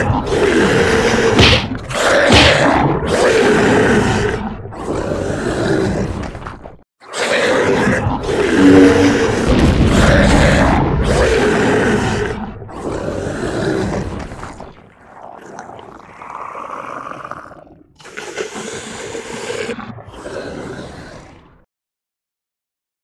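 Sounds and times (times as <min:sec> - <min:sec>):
monster roars: 0:00.0 - 0:06.3, 0:07.1 - 0:21.6.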